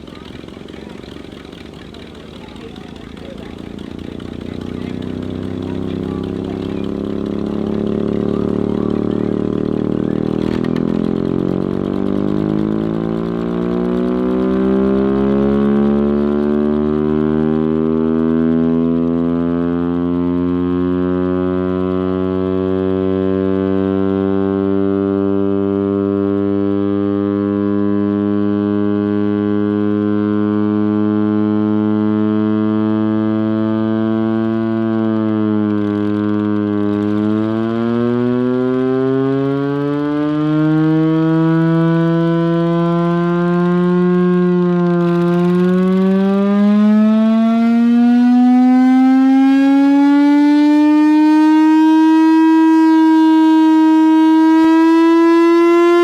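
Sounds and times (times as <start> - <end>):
air raid siren winding up: 0.0 - 56.0
engine drone: 0.0 - 56.0.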